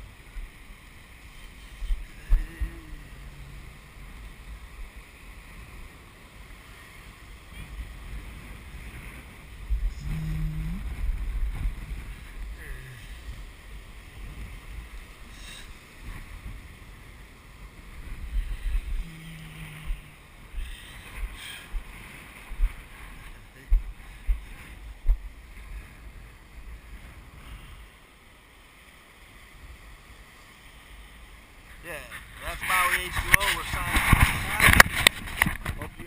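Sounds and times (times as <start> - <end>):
heavy ocean surf: 0.0 - 36.0
wind buffeting microphone: 1.2 - 27.8, 32.1 - 36.0.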